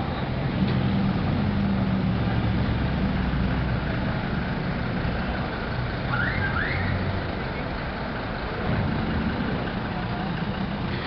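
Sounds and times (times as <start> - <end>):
car engine idling and moving off: 0.0 - 11.0
street noise: 0.0 - 11.0.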